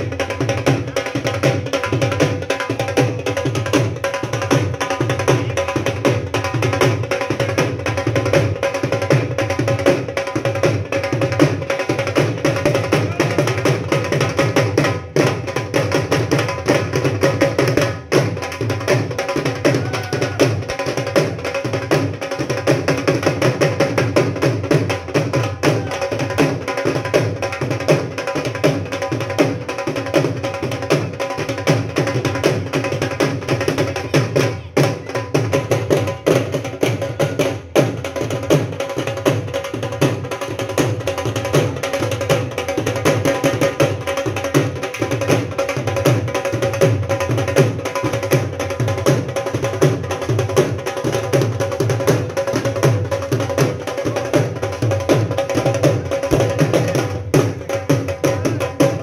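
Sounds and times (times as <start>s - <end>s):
drums beaten with sticks: 0.0s - 59.0s.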